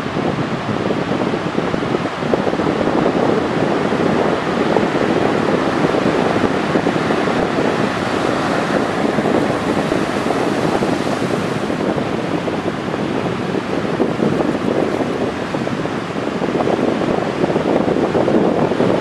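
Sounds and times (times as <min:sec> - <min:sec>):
waves breaking and washing in: 0:00.0 - 0:19.0
wind on the microphone: 0:00.0 - 0:19.0.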